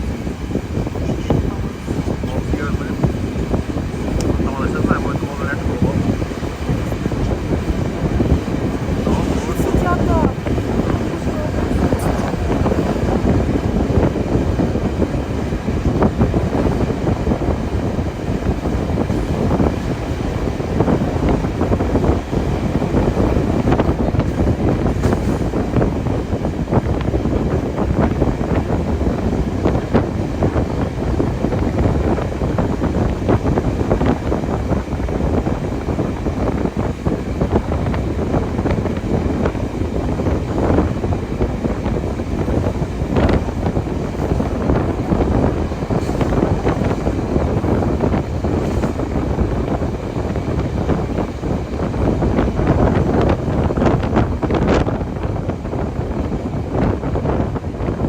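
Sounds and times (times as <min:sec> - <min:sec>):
steam train moving: 0:00.0 - 0:58.0
wind buffeting microphone: 0:00.0 - 0:58.0.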